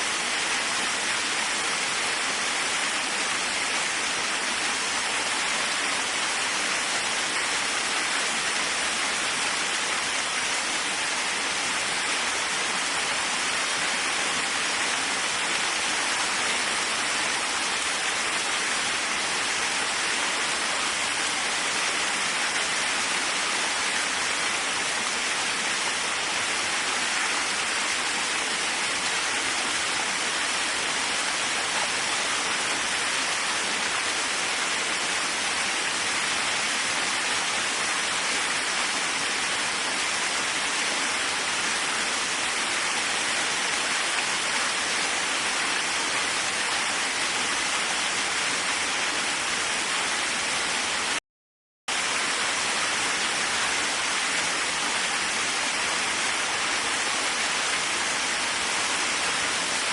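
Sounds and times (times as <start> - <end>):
waterfall rushing: 0.0 - 51.2, 51.9 - 59.9.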